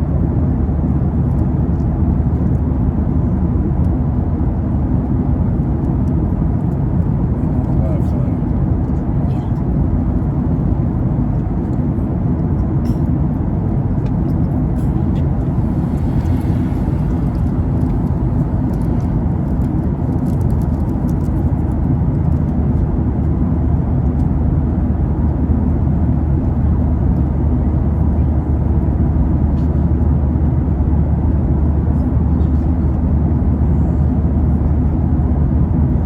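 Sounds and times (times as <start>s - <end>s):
airliner cabin rumble: 0.0s - 36.0s
low hum: 0.0s - 36.0s.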